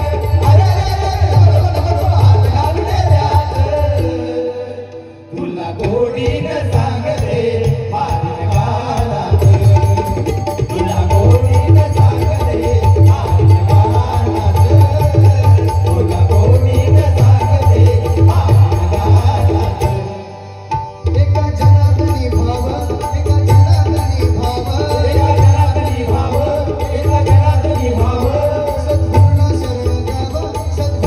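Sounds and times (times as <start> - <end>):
hand drums playing steady rhythm: 0.0 - 4.5, 5.8 - 31.0
sustained harmonium: 0.0 - 31.0.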